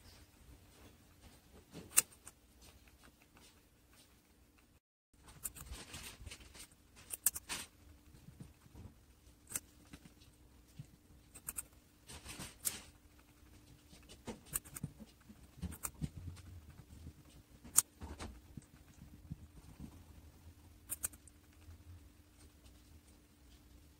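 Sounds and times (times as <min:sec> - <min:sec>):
guinea pig crunching and chewing: 0:00.0 - 0:23.9.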